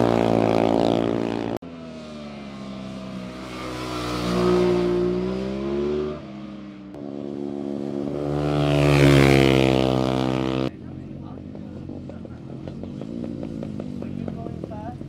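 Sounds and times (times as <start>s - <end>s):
motorcycle engine passing: 0.0s - 15.0s.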